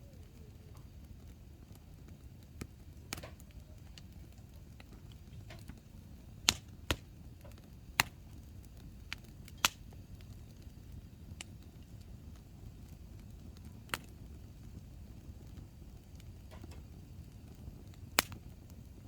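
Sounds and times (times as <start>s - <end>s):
campfire crackling and popping: 0.0s - 19.0s
low rumble of flame: 0.0s - 19.0s.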